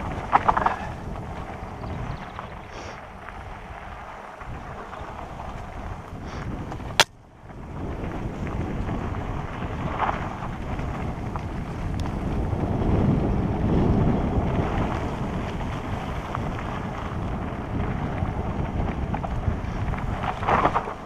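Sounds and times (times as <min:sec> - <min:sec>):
mountain bike rumble on dirt: 0:00.0 - 0:21.0
wind buffeting microphone: 0:00.0 - 0:21.0.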